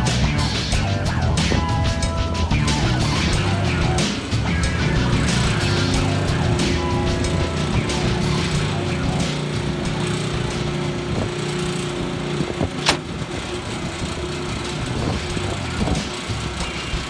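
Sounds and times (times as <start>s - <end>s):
hydraulic pump running: 0.0s - 17.0s.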